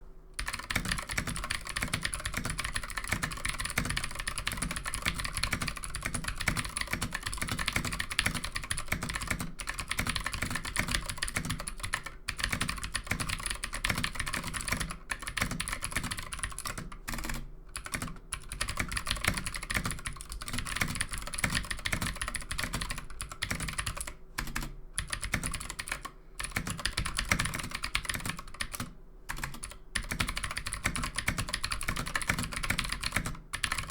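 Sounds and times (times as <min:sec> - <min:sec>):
clicky mechanical keyboard typing: 0:00.4 - 0:33.9.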